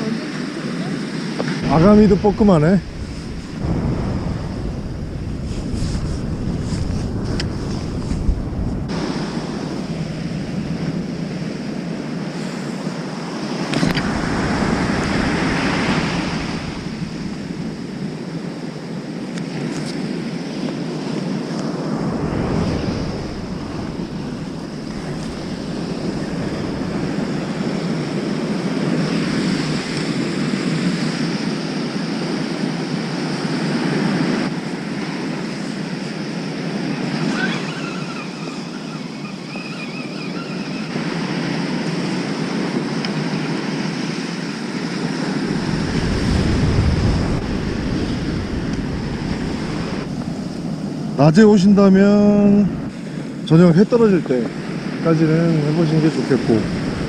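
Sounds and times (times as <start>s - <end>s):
waves breaking on beach: 0.0s - 57.0s
wind rumbling on microphone: 0.0s - 57.0s.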